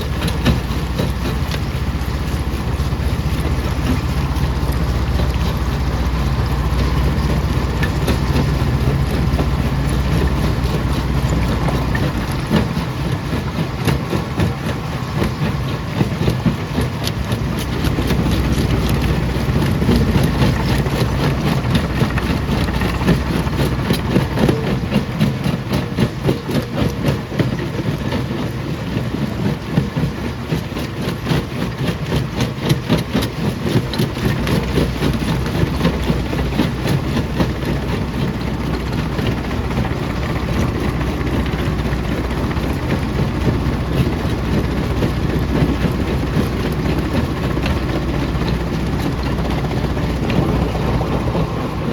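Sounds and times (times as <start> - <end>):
crusher machinery droning: 0.0 - 51.9.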